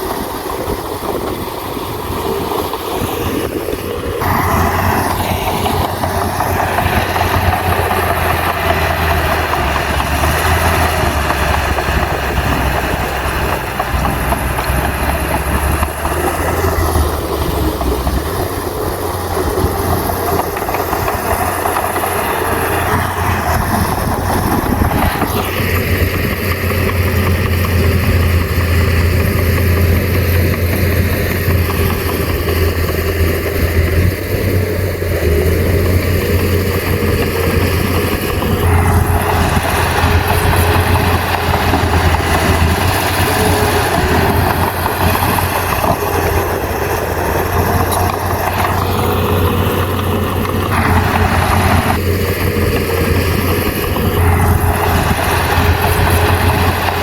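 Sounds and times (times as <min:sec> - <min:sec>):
bulldozer diesel engine humming: 0:00.0 - 0:57.0
rough noisy engine layer: 0:00.0 - 0:57.0.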